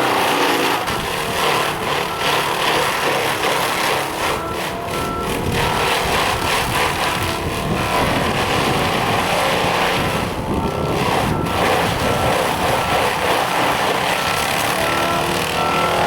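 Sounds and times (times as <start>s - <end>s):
excavator mulcher running: 0.0s - 16.0s.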